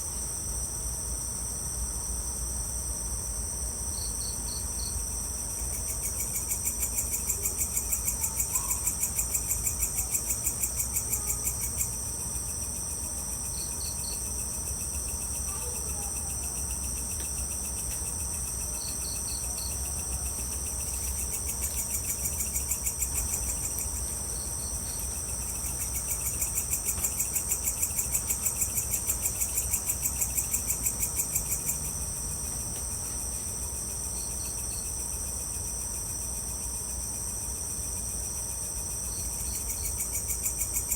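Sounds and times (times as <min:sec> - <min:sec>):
crickets chirping chorus: 0:00.0 - 0:40.9
pulsing insect trills: 0:03.3 - 0:40.9.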